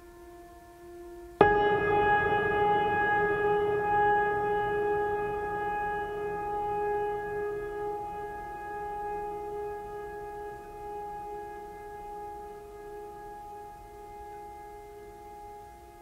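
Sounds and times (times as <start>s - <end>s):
ambient drone music: 0.0s - 16.0s.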